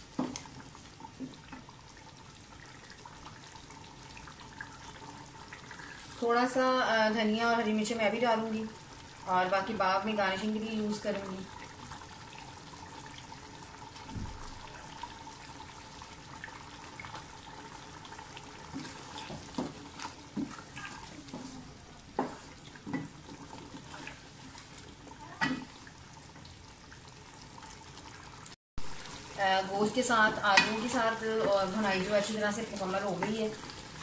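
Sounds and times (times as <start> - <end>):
gravy sizzling: 0.0 - 34.0.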